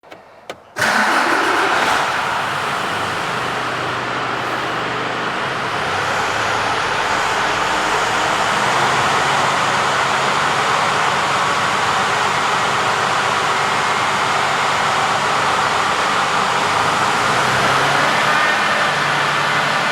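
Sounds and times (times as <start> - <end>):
diesel engine starting and idling: 0.8 - 19.9.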